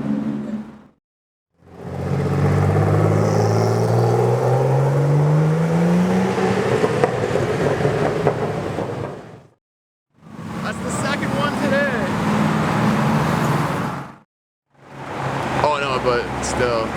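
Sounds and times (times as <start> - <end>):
car engine accelerating: 1.6 - 9.5, 10.2 - 14.2, 14.8 - 16.9.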